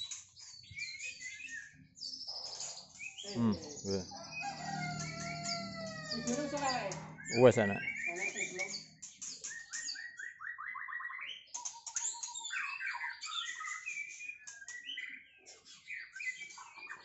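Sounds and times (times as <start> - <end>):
bird singing whistled phrases: 0.0 - 2.2, 3.0 - 8.8, 9.5 - 17.0.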